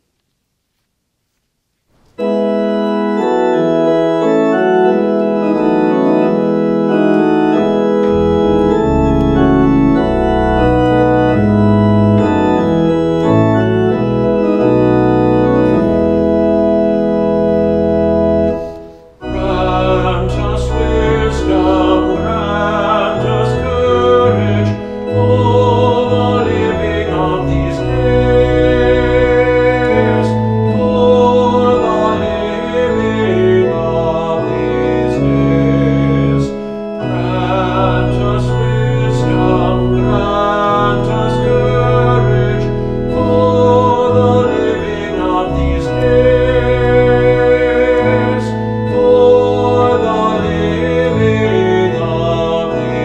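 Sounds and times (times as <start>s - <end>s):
church organ chords: 2.0s - 53.0s.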